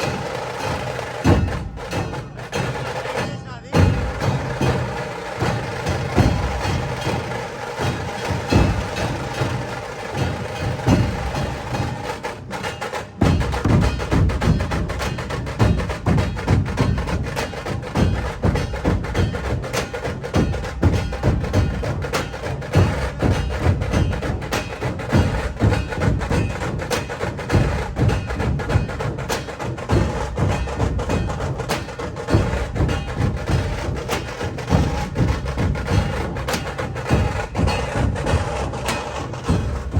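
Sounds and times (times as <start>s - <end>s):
music with wood-block beat: 0.0s - 39.9s.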